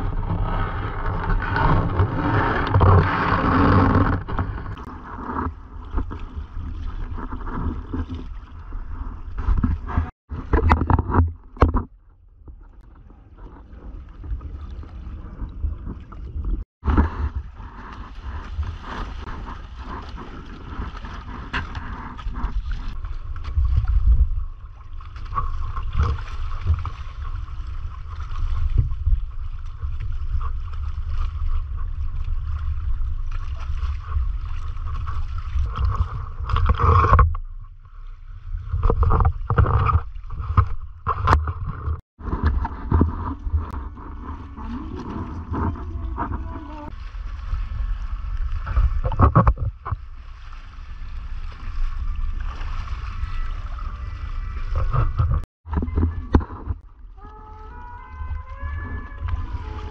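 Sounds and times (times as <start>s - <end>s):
water rushing along hull: 0.0s - 59.9s.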